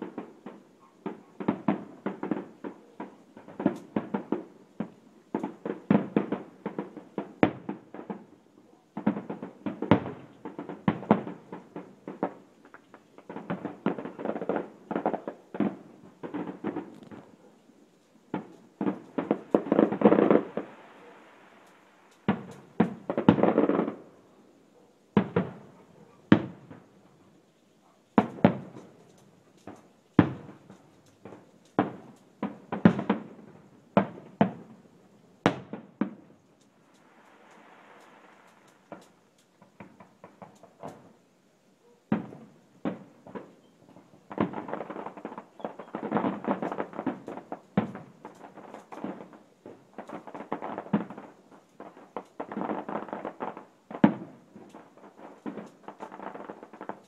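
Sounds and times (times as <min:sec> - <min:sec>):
fireworks popping and crackling: 0:00.0 - 0:41.3, 0:42.1 - 0:57.0.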